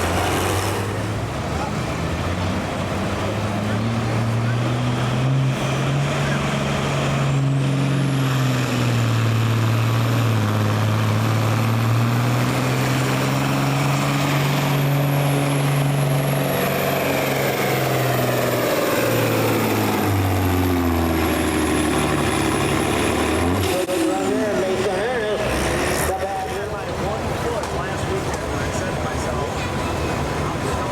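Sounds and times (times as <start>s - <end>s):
heavy diesel engine under load: 0.0s - 30.9s
high engine whine: 0.0s - 30.9s.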